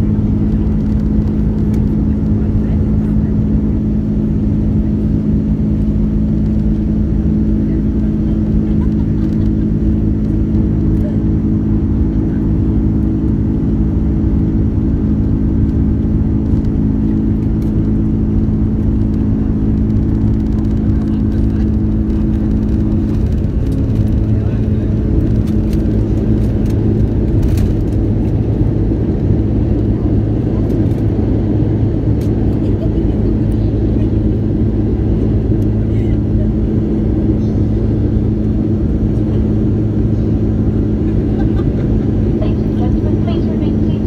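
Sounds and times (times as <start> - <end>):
airliner cabin engine rumble: 0.0 - 44.0.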